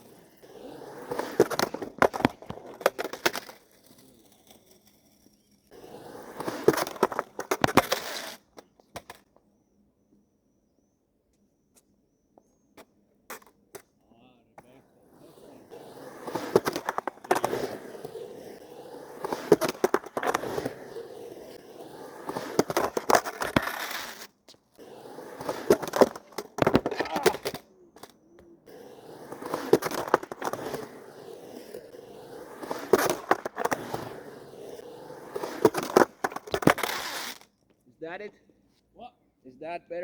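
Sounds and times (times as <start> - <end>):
skateboard clacks and scrapes: 0.0 - 9.3, 14.6 - 37.5
skateboard wheels rolling: 0.0 - 9.7, 14.6 - 37.6.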